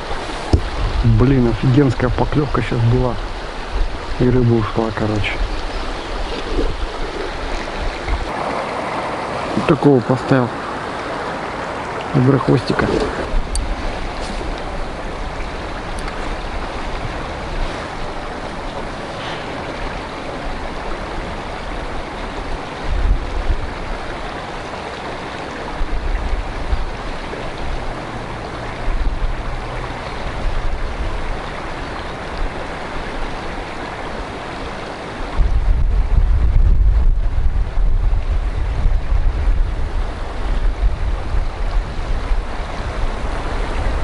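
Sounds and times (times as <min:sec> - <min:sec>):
river water rushing: 0:00.0 - 0:36.4, 0:37.2 - 0:44.0
wind buffeting microphone: 0:00.0 - 0:44.0.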